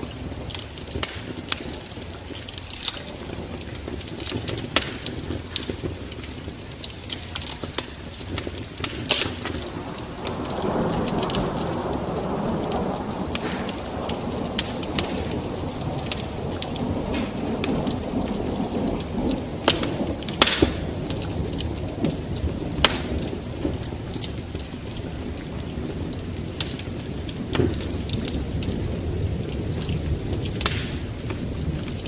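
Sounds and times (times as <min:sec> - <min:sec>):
rush of flames: 0:00.0 - 0:32.0
wood fire crackling and popping: 0:00.0 - 0:32.0.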